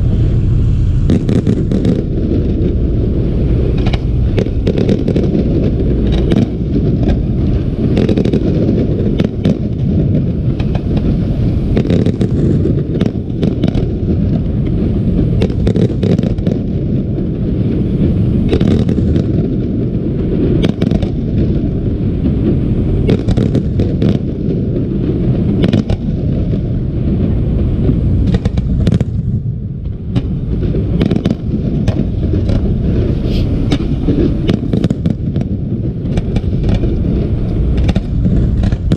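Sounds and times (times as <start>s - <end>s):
firework shell bursts: 0.0s - 26.8s, 27.8s - 38.9s
low rumble: 0.0s - 38.9s.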